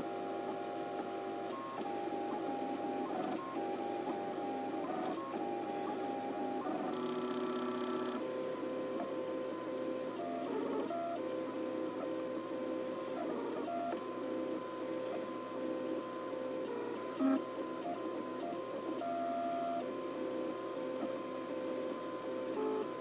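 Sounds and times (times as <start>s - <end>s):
printer stepper motors whining: 0.0s - 23.0s.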